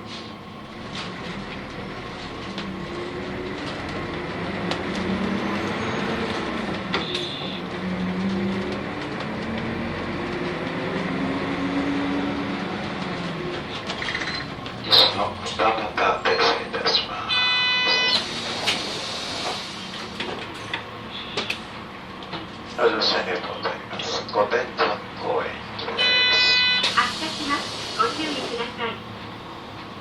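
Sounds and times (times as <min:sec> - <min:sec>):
bus engine: 0:00.0 - 0:30.0
road noise: 0:00.0 - 0:30.0.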